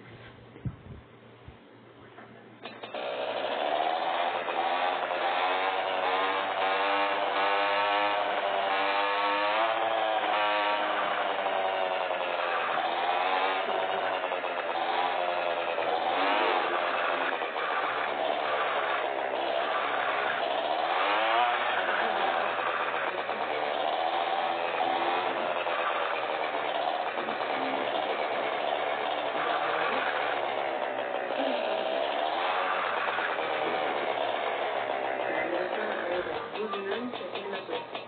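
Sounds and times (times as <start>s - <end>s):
motorcycle engine revving: 2.6s - 38.0s.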